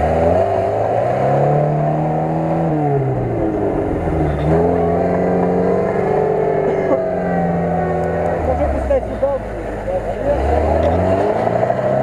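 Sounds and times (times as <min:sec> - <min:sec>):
engine revving hard: 0:00.0 - 0:12.0.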